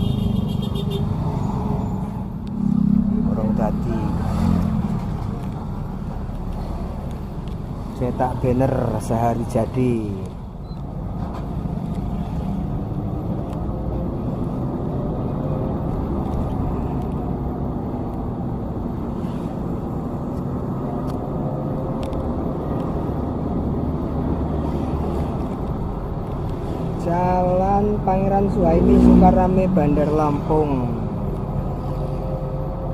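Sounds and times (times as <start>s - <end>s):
vehicle engine and road rumble: 0.0s - 32.9s.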